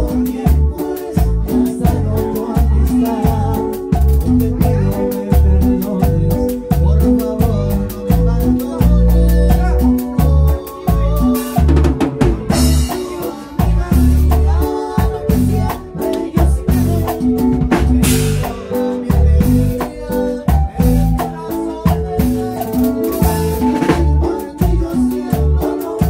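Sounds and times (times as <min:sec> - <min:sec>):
bass: 0:00.0 - 0:26.0
drum kit beat: 0:00.0 - 0:26.0
electronic keyboard: 0:00.0 - 0:26.0
live band playing: 0:00.0 - 0:26.0.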